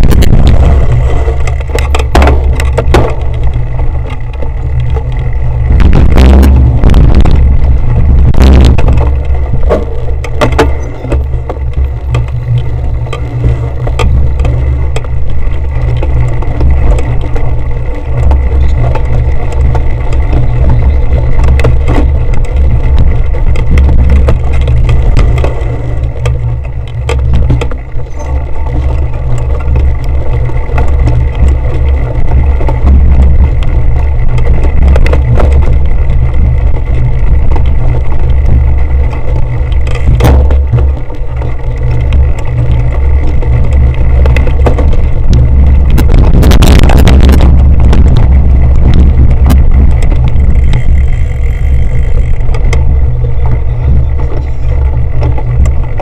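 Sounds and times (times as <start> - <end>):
wind rumble on microphone: 0.0 - 56.0
bicycle frame rattling clicks: 0.5 - 5.8, 8.8 - 56.0.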